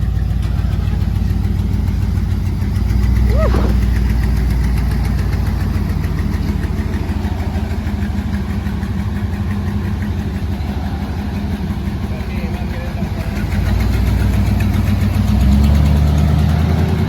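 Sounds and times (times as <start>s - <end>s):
pickup truck engine rumbling: 0.0s - 17.0s.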